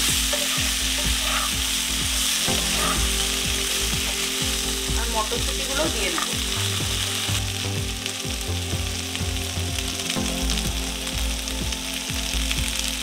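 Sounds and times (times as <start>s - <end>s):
low hum: 0.0s - 13.0s
vegetables sizzling in oil: 0.0s - 13.0s.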